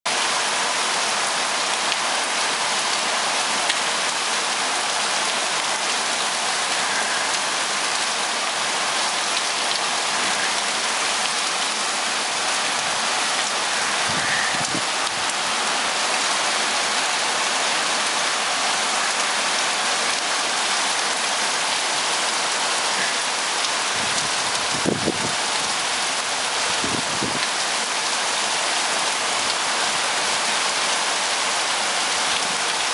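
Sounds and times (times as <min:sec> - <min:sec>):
heavy rain on pavement: 0:00.1 - 0:32.9.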